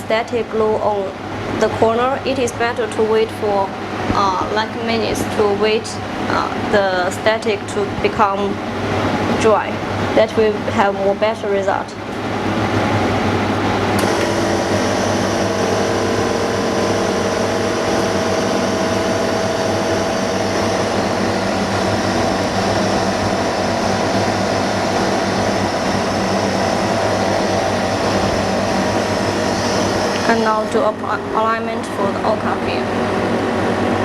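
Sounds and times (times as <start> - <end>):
electric machine humming and whirring: 0.0 - 34.0.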